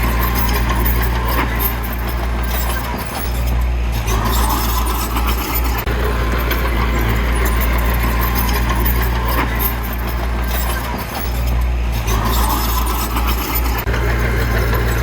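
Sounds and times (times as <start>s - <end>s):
faint clanks: 0.0s - 15.0s
heavy diesel engine running: 0.0s - 15.0s.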